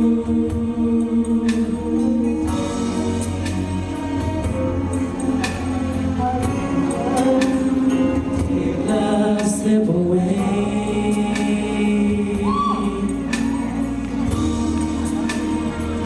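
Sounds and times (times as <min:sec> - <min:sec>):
choir singing harmonies: 0:00.0 - 0:16.0.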